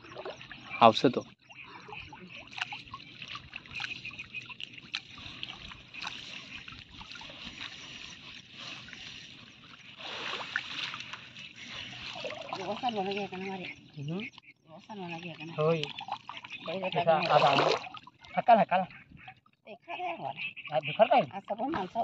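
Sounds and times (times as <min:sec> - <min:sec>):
small water splashes: 0:00.0 - 0:19.4
creek water sloshing and trickling: 0:00.0 - 0:22.0.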